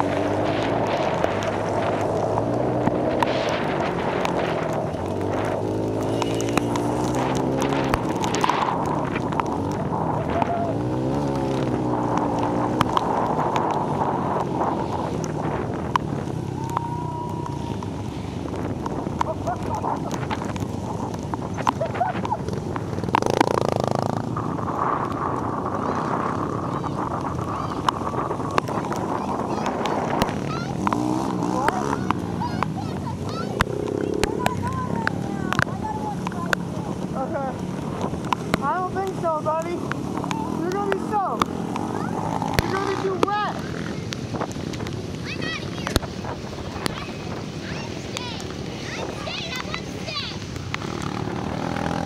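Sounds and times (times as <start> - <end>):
pit bike engines revving: 0.0 - 52.0.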